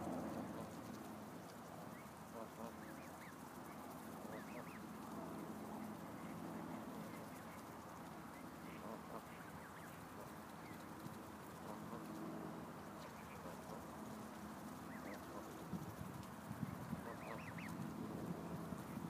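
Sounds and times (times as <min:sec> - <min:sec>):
faint low hum: 0:00.0 - 0:19.0
goslings peeping: 0:00.3 - 0:12.1, 0:12.9 - 0:19.0.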